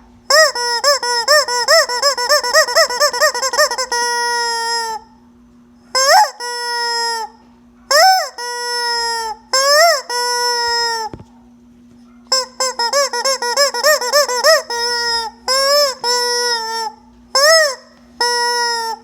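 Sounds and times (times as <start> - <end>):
rubber chicken toy squawking: 0.3 - 5.1, 5.9 - 11.2, 12.3 - 19.0.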